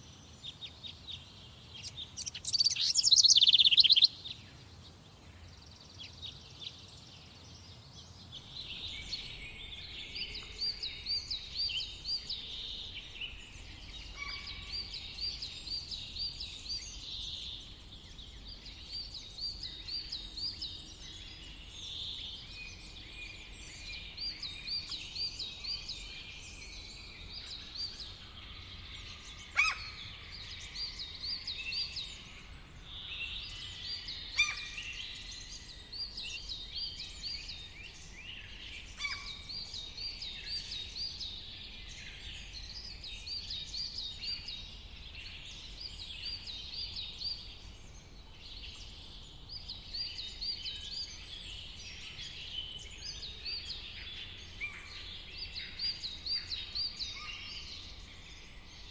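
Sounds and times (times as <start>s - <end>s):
background hiss: 0.0s - 58.9s
songbirds singing: 0.0s - 58.9s.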